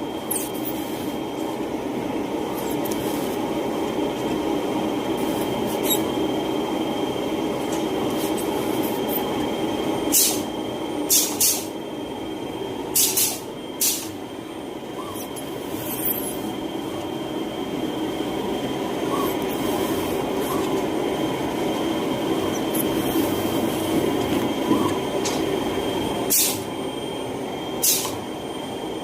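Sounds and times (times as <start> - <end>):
factory machinery whine and drone: 0.0 - 29.0.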